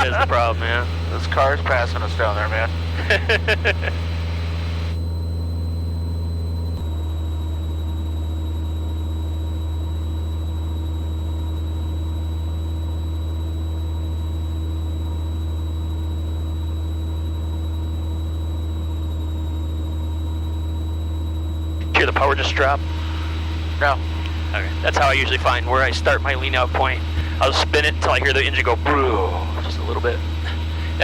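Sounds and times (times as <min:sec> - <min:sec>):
propeller aircraft engine running: 0:00.0 - 0:31.0.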